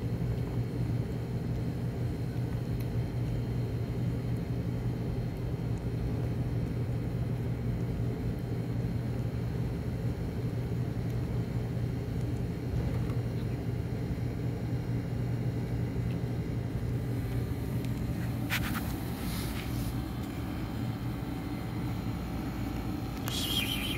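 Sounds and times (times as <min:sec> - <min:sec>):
low machine hum: 0:00.0 - 0:23.9.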